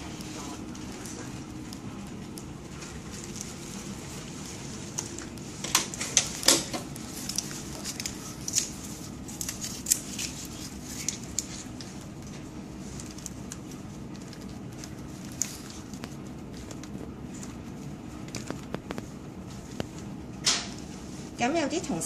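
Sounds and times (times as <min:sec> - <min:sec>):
plastic bags crinkling and clicking: 0:00.0 - 0:20.9.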